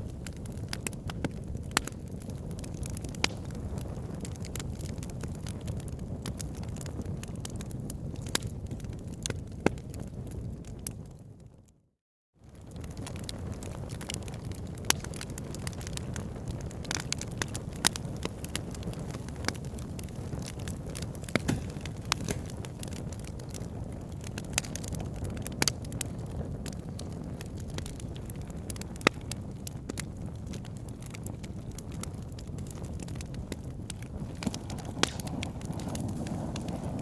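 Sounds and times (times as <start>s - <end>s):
campfire crackling and popping: 0.0s - 11.4s, 12.4s - 37.0s.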